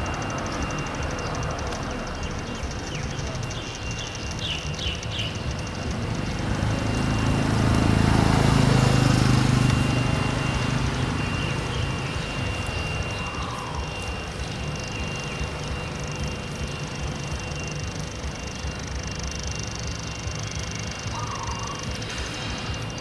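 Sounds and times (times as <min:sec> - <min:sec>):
passing engine: 0:00.0 - 0:23.0.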